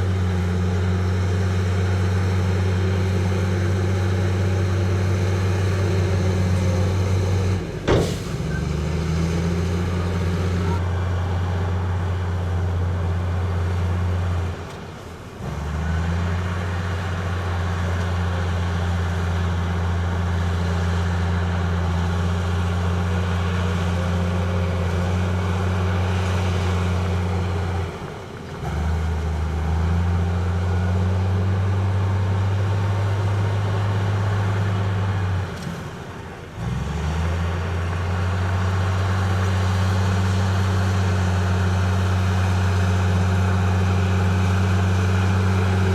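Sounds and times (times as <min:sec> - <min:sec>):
heavy diesel machinery drone: 0:00.0 - 0:45.9.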